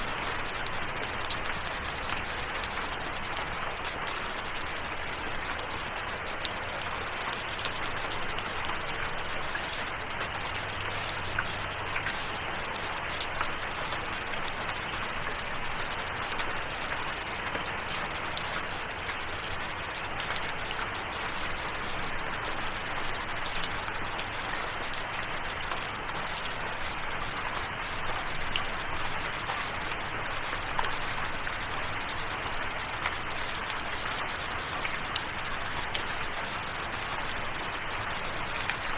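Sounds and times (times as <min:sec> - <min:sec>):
raindrops ticking on a surface: 0:00.0 - 0:38.9
steady rain falling: 0:00.0 - 0:38.9.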